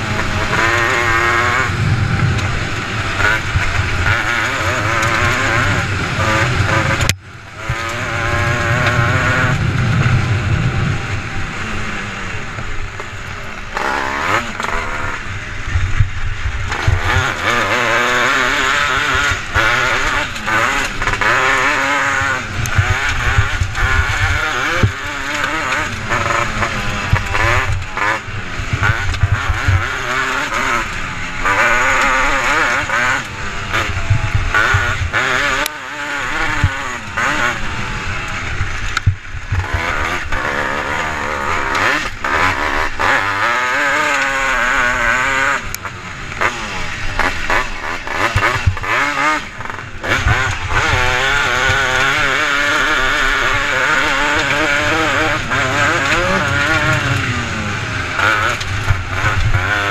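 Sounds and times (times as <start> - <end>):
buggy engine revving: 0.0 - 59.9.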